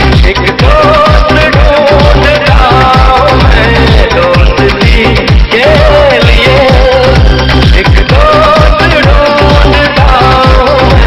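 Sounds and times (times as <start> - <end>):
electronic kick drum beat: 0.0 - 11.0.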